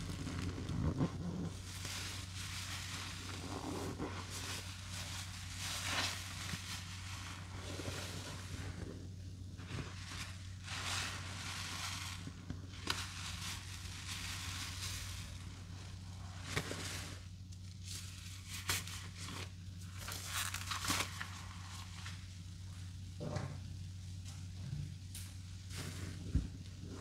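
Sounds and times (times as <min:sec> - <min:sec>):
wet foam crackling: 0:00.0 - 0:22.4
low steady hum: 0:00.0 - 0:27.0.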